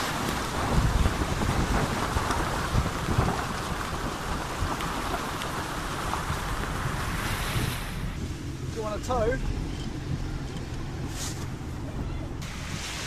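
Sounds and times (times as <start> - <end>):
floodwater rushing against car: 0.0 - 13.0.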